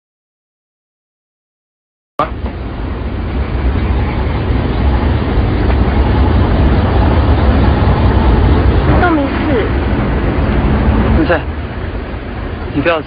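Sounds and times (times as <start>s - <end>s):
steady rumbling with hiss: 2.2s - 13.0s.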